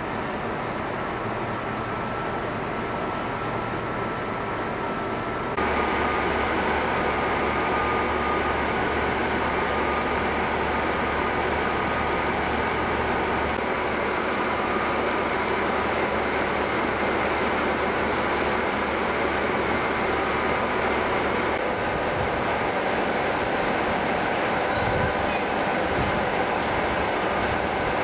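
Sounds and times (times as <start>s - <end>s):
diesel railcar engine idling: 0.0s - 28.0s.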